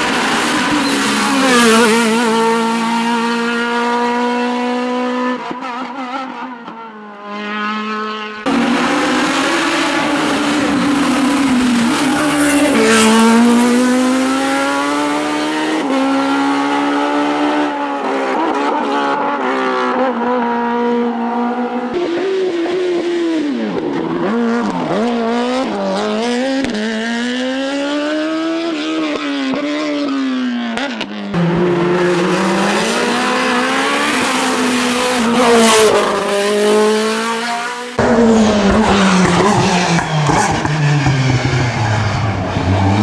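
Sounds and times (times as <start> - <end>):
race cars passing at full throttle: 0.0 - 43.0.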